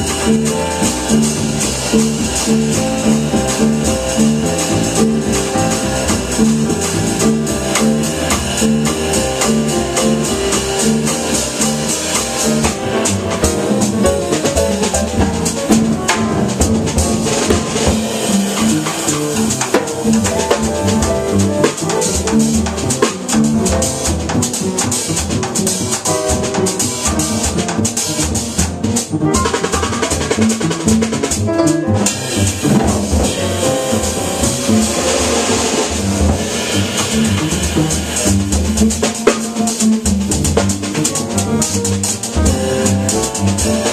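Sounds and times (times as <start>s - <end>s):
drums and cymbals: 0.0s - 43.9s
grand piano: 0.0s - 43.9s
upright bass: 0.0s - 43.9s.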